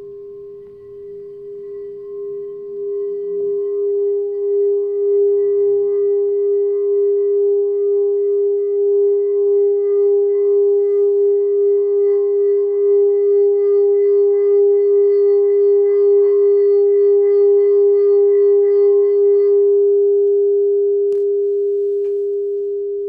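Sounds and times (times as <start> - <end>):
singing bowl ringing: 0.0 - 23.0.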